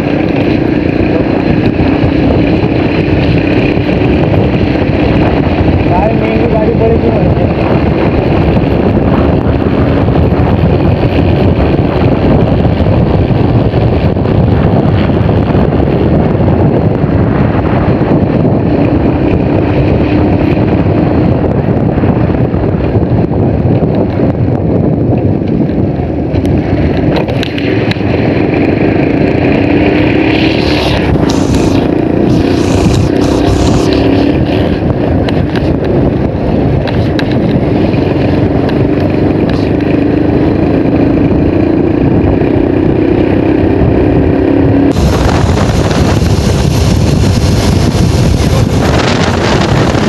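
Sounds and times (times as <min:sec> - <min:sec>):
motorcycle engine droning: 0:00.0 - 0:50.0
road noise: 0:00.0 - 0:50.0
wind rushing on microphone: 0:00.0 - 0:50.0.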